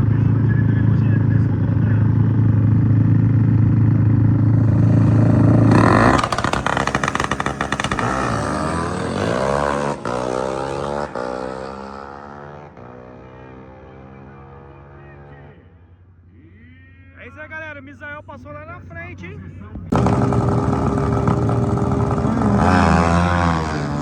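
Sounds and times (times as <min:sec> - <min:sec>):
race motorcycle engine accelerating: 0:00.0 - 0:15.7, 0:19.8 - 0:24.0.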